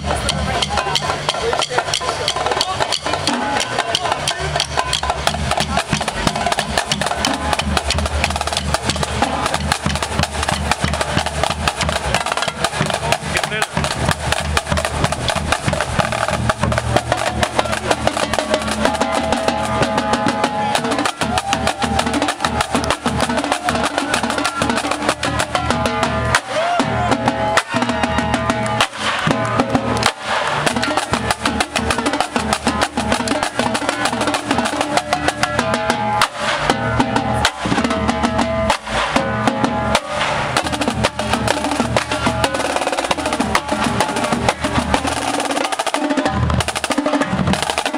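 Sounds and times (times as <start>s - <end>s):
marching drumline playing: 0.0s - 47.9s.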